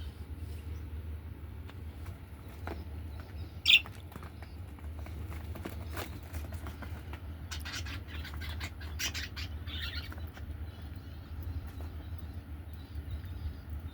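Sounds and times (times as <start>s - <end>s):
steady low hum: 0.0s - 13.9s
budgies chirping and chattering: 2.4s - 13.9s.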